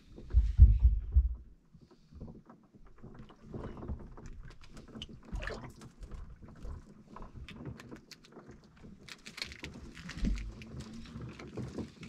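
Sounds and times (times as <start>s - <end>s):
gear clicks and knocks: 0.2s - 12.0s
water lapping against boat hull: 1.8s - 12.0s.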